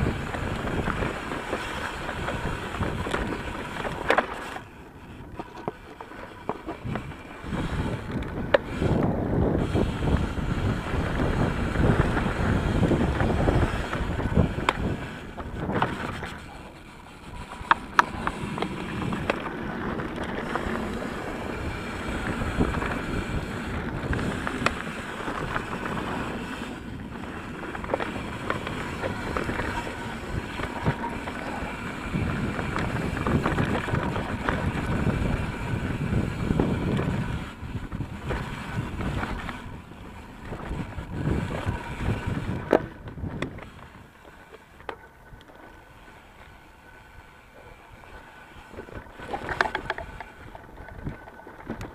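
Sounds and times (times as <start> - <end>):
bike clicking and rattling: 0.0 - 51.9
bike tyre rumble: 0.0 - 51.9
wind buffeting microphone: 0.0 - 51.9.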